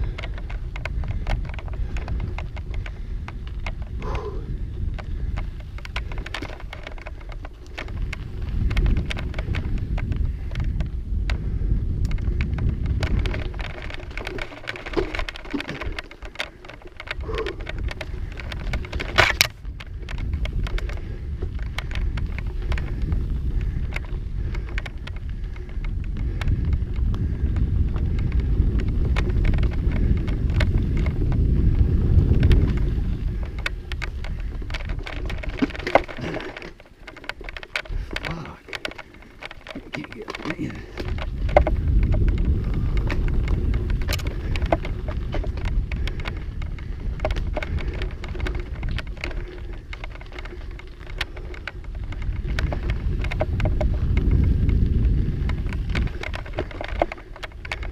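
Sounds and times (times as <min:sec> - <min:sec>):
bike clattering over rocks: 0:00.0 - 0:10.8, 0:12.2 - 0:57.9
wind rumble on microphone: 0:00.0 - 0:57.9.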